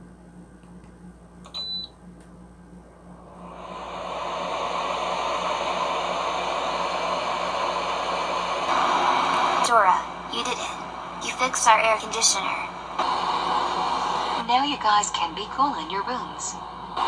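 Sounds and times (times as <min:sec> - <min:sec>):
air conditioner fan hissing: 0:00.0 - 0:17.0.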